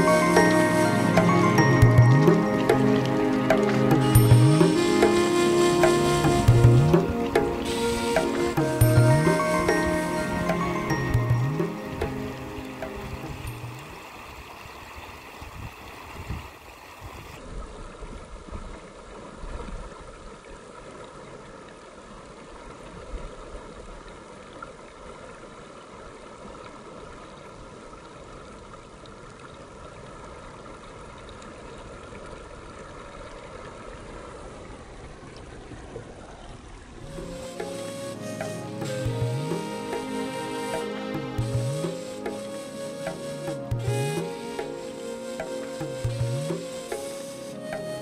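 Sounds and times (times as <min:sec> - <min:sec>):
stream rushing: 0:00.0 - 0:48.0.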